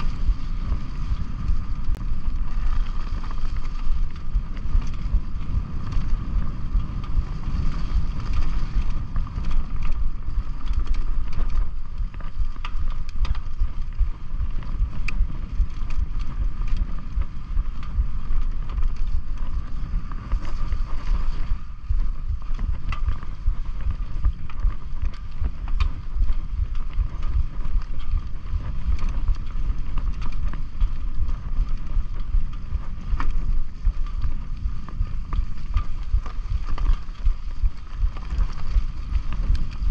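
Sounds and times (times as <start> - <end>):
bike rattling clicks: 0.0 - 39.9
tyres rumbling over rough ground: 0.0 - 39.9
wind buffeting microphone: 0.0 - 39.9.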